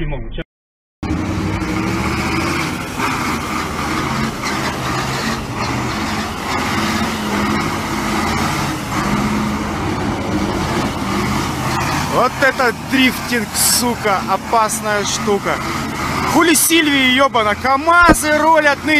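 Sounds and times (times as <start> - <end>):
truck diesel engine revving: 1.0 - 18.9.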